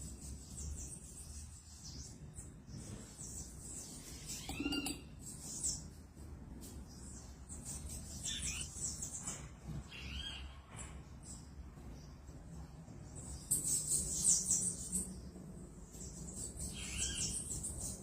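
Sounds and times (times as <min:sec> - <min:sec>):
small bird chirping: 0:00.0 - 0:06.0, 0:06.6 - 0:12.2, 0:13.0 - 0:18.0.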